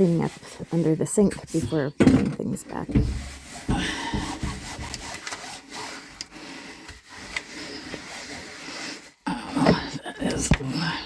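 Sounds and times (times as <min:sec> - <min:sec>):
scrubbing and scraping strokes: 0:00.0 - 0:11.0.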